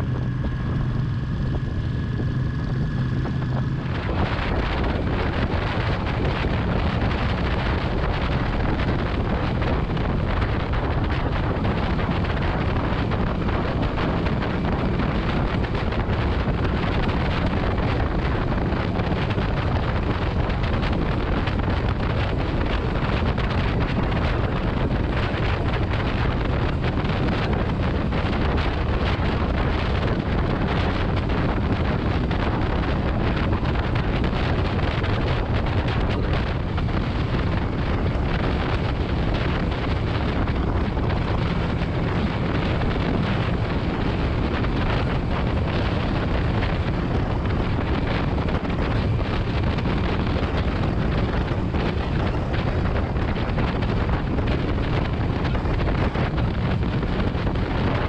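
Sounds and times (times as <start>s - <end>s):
steady low rumble: 0.0s - 58.0s
wind buffeting microphone: 0.0s - 58.0s.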